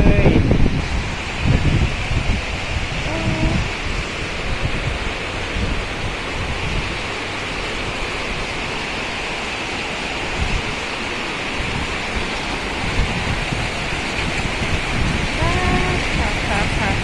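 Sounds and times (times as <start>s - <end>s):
heavy rain pouring: 0.0s - 17.0s
wind buffeting microphone: 0.0s - 17.0s.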